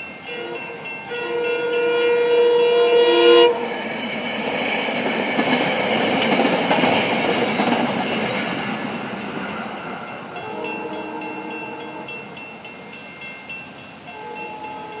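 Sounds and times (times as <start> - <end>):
crossing bell ringing: 0.0 - 6.5, 7.6 - 15.0
electric train rumbling: 0.0 - 15.0.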